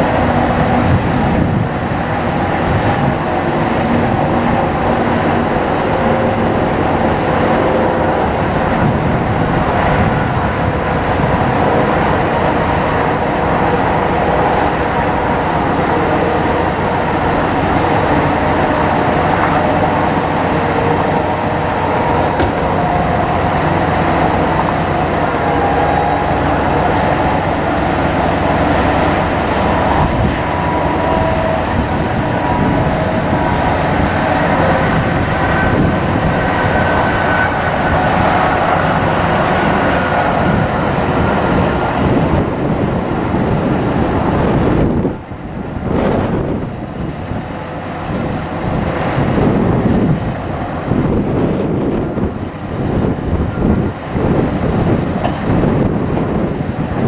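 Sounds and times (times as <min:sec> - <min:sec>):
hydraulic whine: 0:00.0 - 0:57.0
truck engine running: 0:00.0 - 0:57.0.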